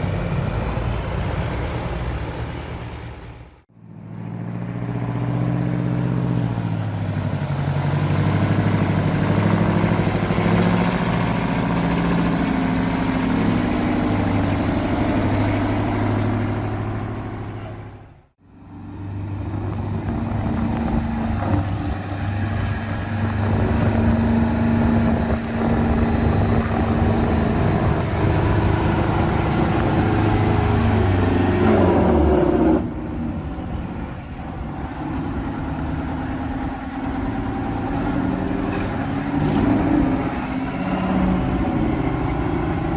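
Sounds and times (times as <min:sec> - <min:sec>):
truck diesel engine revving: 0:03.8 - 0:18.1, 0:18.9 - 0:42.9.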